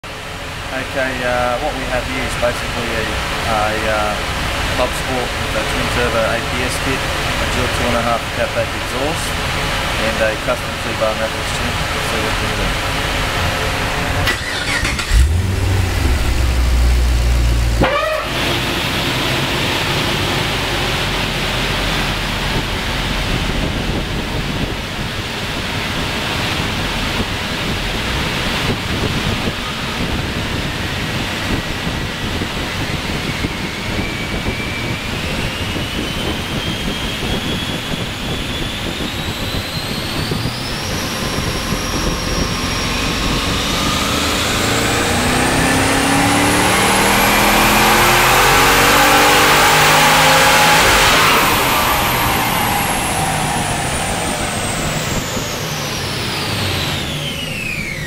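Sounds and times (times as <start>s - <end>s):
engine revving on dyno: 0.1s - 58.0s
high turbo whine: 0.1s - 58.0s.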